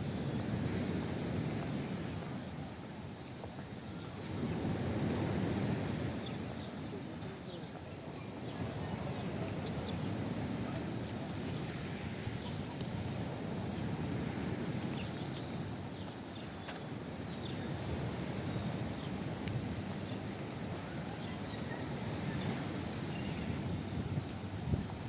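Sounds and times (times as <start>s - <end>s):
background noise: 0.0s - 25.0s.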